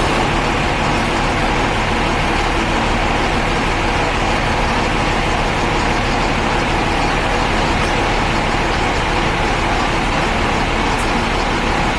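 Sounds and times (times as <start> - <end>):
diesel bus engine running: 0.0 - 11.9.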